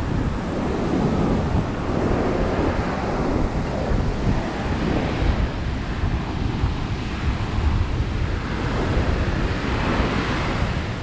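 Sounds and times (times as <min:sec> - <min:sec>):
ocean surf breaking on beach: 0:00.0 - 0:11.0
wind buffeting microphone: 0:00.0 - 0:11.0.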